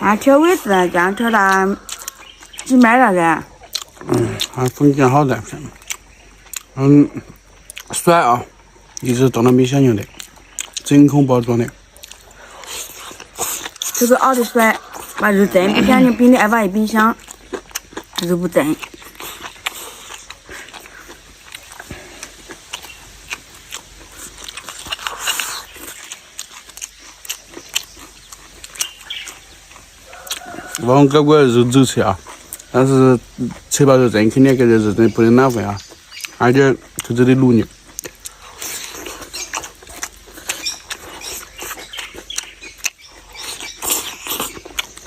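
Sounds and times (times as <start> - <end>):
person chewing food: 1.3 - 34.6, 35.4 - 45.0.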